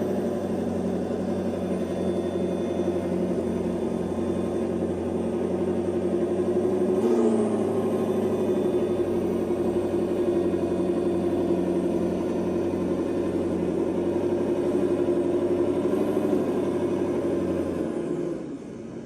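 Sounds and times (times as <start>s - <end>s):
electric motor and gears whining: 0.0s - 18.5s.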